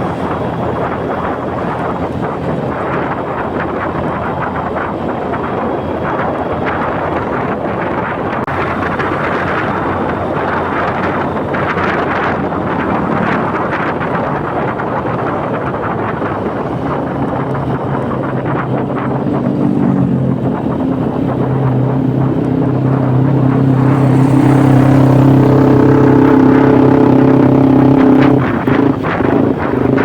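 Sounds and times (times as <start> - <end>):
scooter engine: 0.0 - 30.0
wind on microphone: 0.0 - 30.0.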